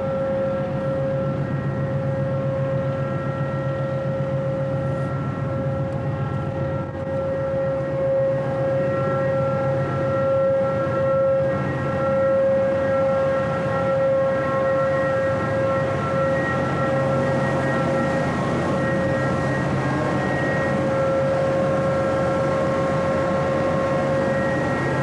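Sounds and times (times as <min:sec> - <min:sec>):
ship machinery whine and hum: 0:00.0 - 0:25.0.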